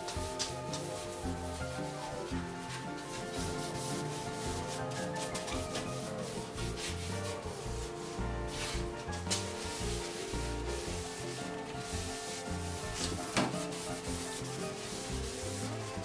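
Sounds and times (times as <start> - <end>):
background music with held notes: 0.0 - 16.0
brush scrubbing wood: 0.0 - 16.0.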